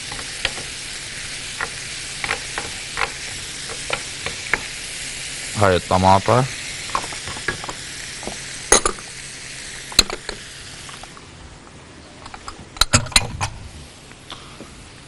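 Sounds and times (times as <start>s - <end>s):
faint frying hiss: 0.0s - 15.0s.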